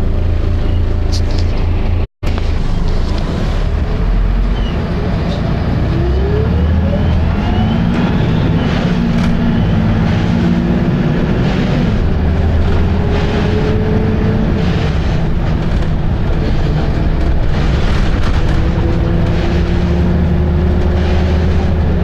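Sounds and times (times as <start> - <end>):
bus diesel engine running hard: 0.0 - 22.0
engine whine: 0.0 - 22.0.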